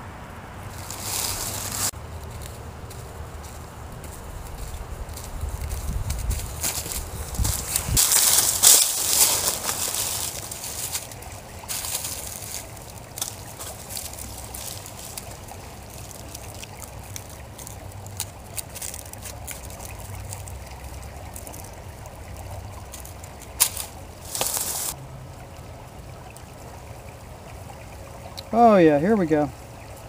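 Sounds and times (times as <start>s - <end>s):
water trickling: 0.6s - 30.0s
dry leaves crackling and rustling: 0.7s - 25.0s.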